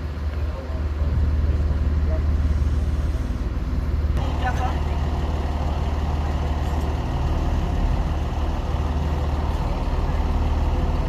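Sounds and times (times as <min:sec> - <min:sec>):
large vehicle engine idling: 0:00.0 - 0:11.0.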